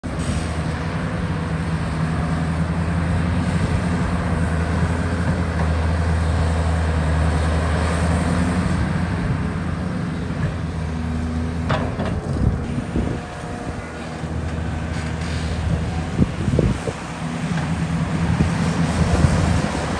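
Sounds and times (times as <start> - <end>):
heavy diesel machinery droning: 0.0 - 19.9.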